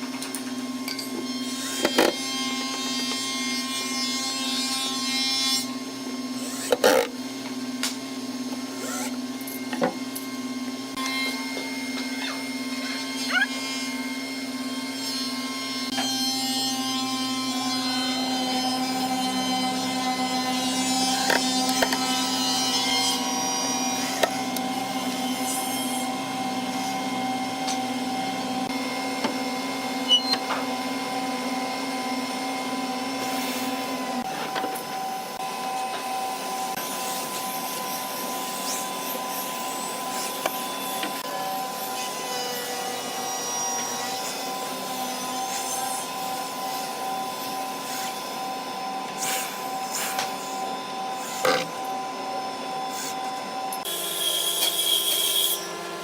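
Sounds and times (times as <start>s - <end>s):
power tool motor whining: 5.6s - 7.4s, 8.3s - 56.0s.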